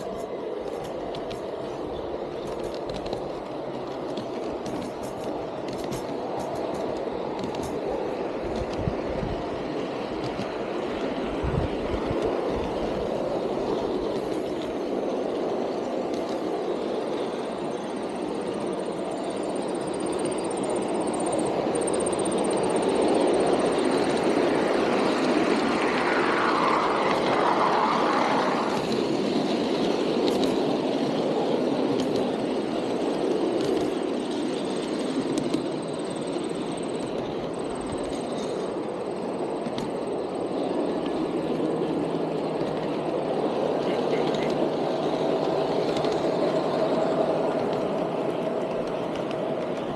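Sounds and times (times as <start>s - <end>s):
model train wheels rolling on rails: 0.0s - 49.9s.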